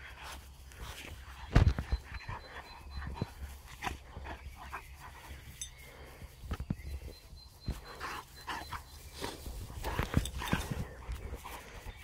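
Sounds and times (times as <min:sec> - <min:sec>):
dog panting: 0:00.0 - 0:06.2, 0:07.5 - 0:12.0
rustling in grass: 0:00.0 - 0:12.0.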